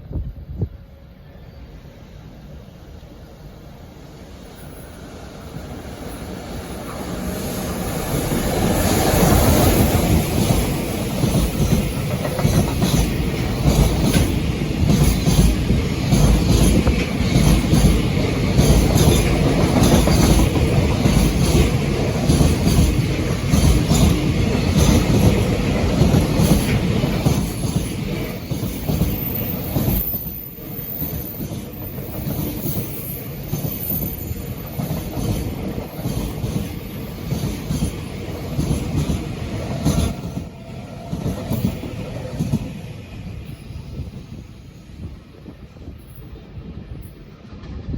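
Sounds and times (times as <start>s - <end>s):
train wheels clattering on rails: 4.7s - 47.9s.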